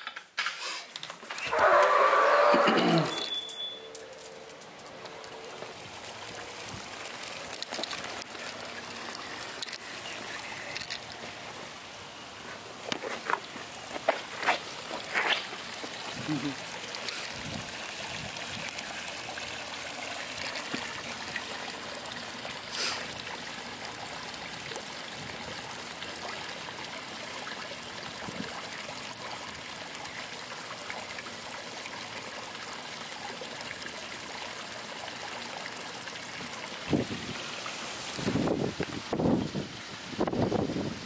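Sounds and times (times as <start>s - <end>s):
water trickling into pool: 0.9s - 41.0s.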